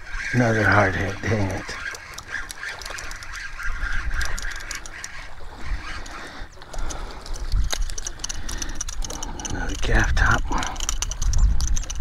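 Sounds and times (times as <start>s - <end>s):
water splashing: 0.0s - 12.0s
wind buffeting microphone: 0.0s - 12.0s
fishing reel clicks: 1.3s - 5.3s, 5.9s - 12.0s.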